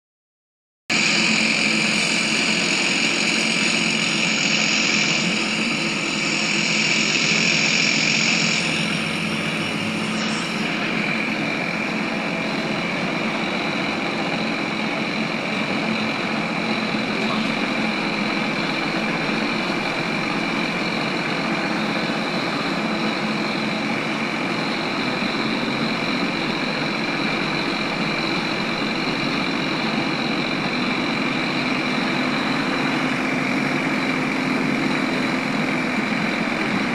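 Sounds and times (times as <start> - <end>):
electric drive hum and whine: 0.9 - 36.9
road noise: 0.9 - 36.9.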